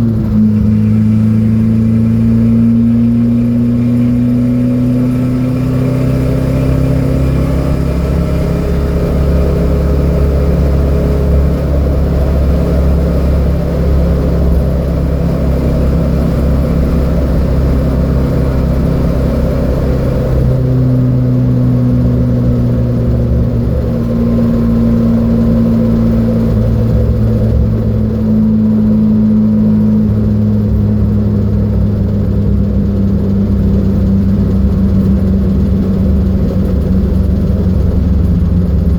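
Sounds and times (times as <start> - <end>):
car engine running hard: 0.0 - 38.9.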